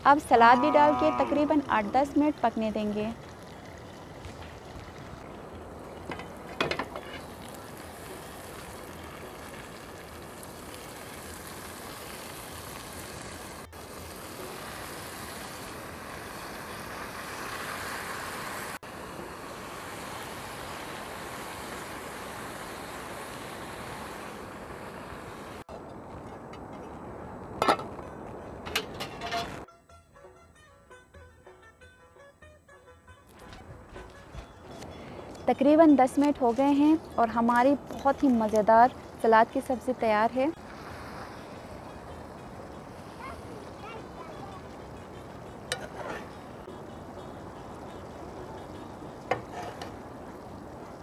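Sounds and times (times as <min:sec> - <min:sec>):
vegetables sizzling in a pot: 0:00.0 - 0:25.7, 0:35.4 - 0:51.0.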